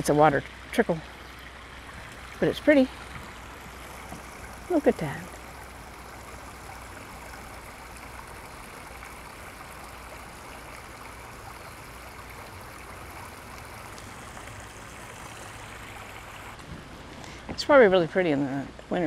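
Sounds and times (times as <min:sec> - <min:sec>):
creek trickling over rocks: 0:00.0 - 0:19.0.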